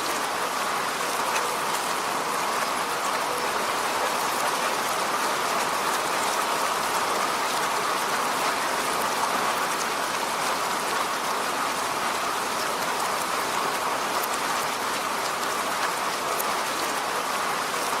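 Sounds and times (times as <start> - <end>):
rain falling on a road: 0.0 - 18.0.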